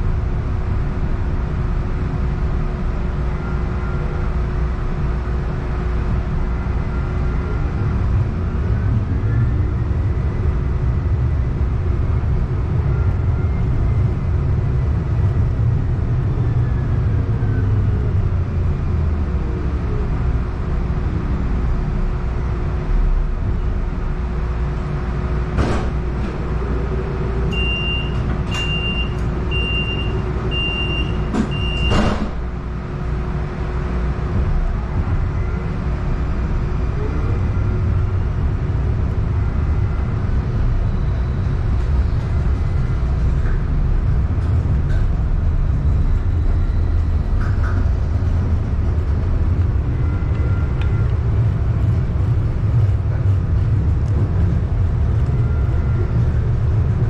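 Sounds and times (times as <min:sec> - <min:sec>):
streetcar interior rumble: 0:00.0 - 0:57.0.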